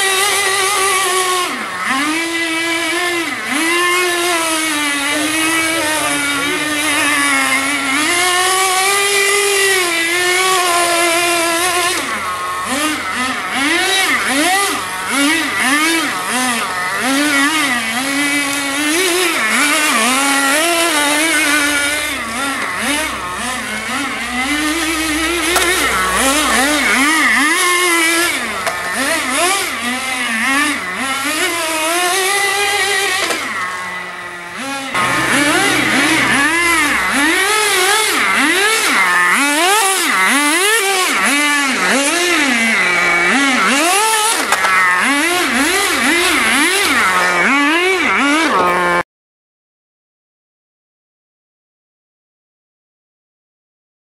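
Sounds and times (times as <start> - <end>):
toy car motor revving: 0.0 - 49.0.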